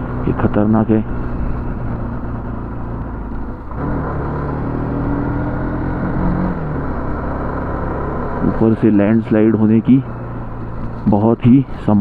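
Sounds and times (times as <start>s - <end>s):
motorcycle engine pulling uphill: 0.0s - 11.5s
wind and road noise: 0.0s - 12.0s.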